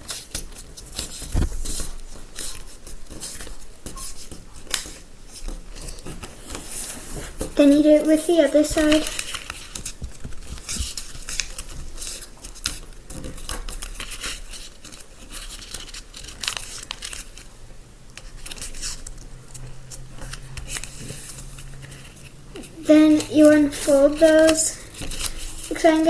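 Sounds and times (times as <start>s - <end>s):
paper rustling and crinkling: 0.0s - 17.5s, 18.2s - 26.0s.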